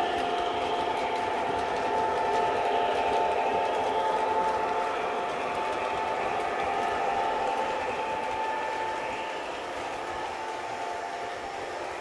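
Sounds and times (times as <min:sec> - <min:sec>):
wheels clattering on rails: 0:00.0 - 0:12.0.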